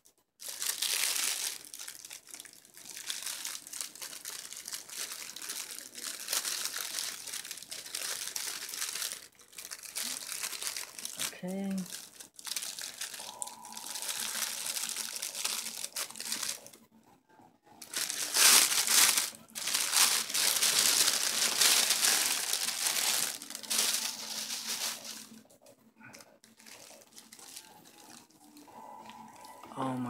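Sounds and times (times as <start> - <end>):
plastic wrapping crinkling: 0.4 - 16.8, 17.8 - 29.6.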